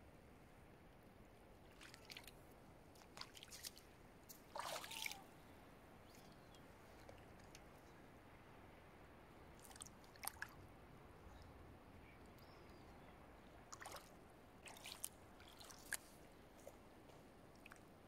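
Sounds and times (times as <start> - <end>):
faint water splashes and drips: 1.6 - 8.1, 9.4 - 18.0.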